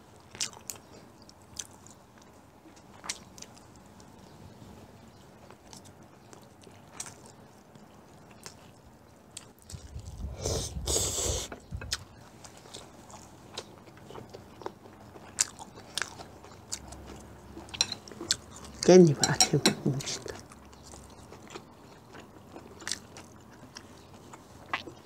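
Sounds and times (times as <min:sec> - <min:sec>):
close chewing and biting: 0:00.1 - 0:04.3, 0:05.4 - 0:25.0.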